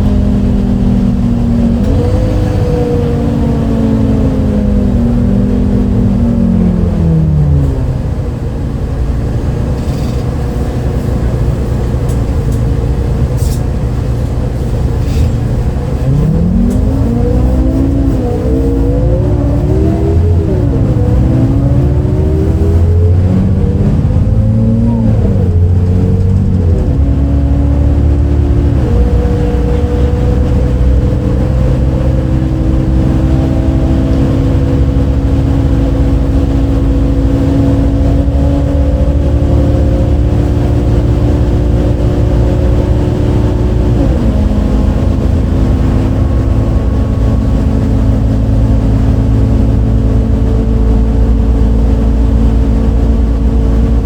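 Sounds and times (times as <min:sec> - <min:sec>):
bus diesel engine shifting gears: 0:00.0 - 0:54.0.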